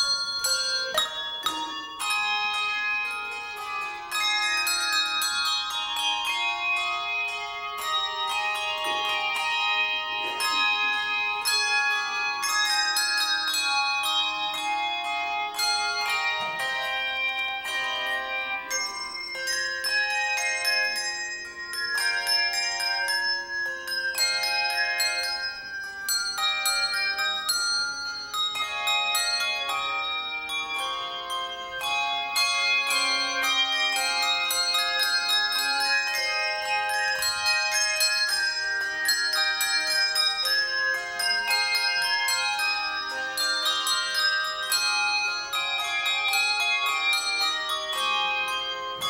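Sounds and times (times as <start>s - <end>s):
handbell choir ringing: 0.0s - 49.0s.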